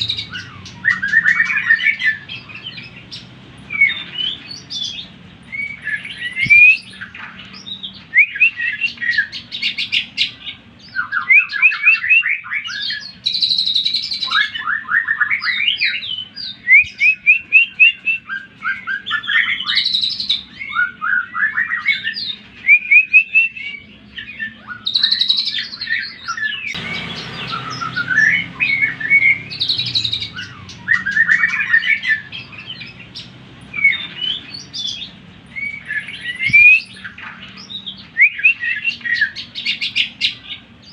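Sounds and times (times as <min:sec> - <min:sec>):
bird singing trills and whistles: 0:00.0 - 0:40.9.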